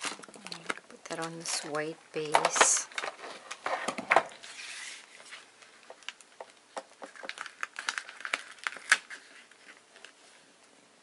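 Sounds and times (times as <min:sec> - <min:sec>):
paper and card tapping and rustling: 0:00.0 - 0:10.3.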